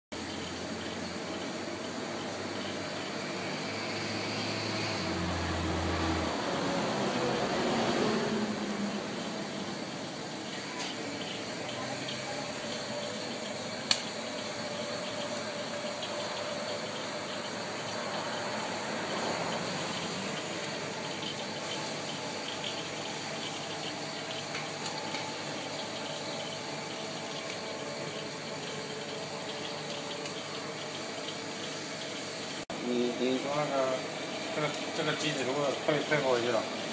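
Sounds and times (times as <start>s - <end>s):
coffee roaster rushing noise: 0.1s - 36.9s.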